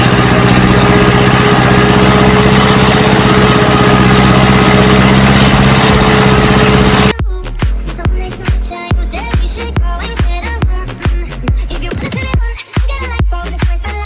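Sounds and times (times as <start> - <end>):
tractor diesel engine running: 0.0 - 12.3.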